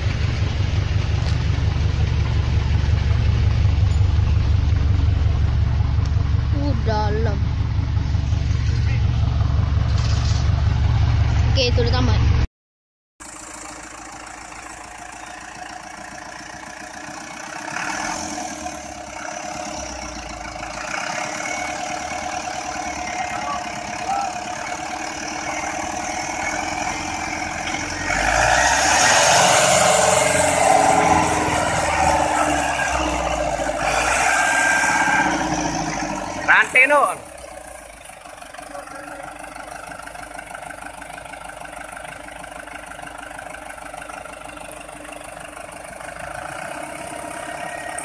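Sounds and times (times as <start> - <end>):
diesel tractor engines under load: 0.0 - 12.5, 13.2 - 48.0.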